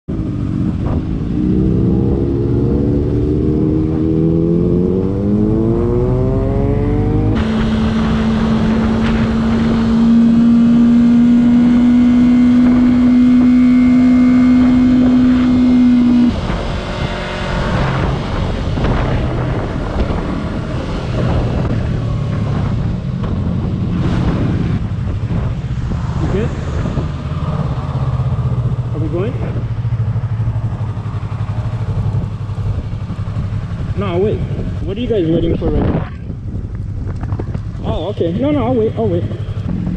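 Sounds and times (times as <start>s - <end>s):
motorcycle engine accelerating: 0.1s - 39.9s
wind rushing: 0.2s - 38.1s.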